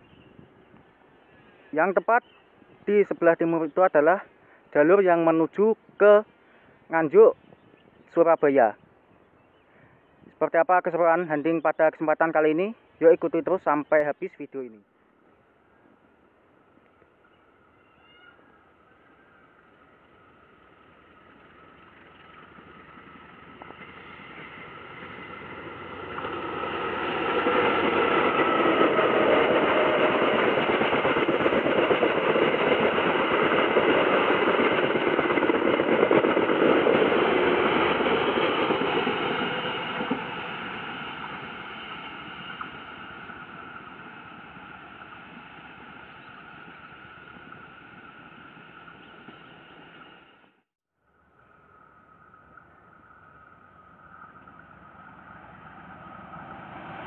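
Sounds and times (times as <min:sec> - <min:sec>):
passenger train passing: 0:00.0 - 0:09.2, 0:10.4 - 0:57.0.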